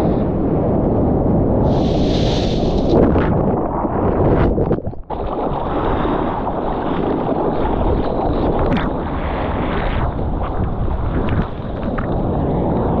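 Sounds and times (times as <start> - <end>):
wind buffeting microphone: 0.0 - 13.0
surf rushing: 1.4 - 13.0.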